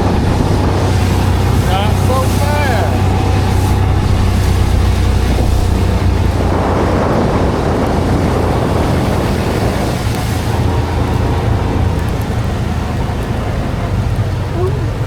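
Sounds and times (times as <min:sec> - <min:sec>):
engine running with low hum: 0:00.0 - 0:15.0
rough noisy sound: 0:00.0 - 0:15.0.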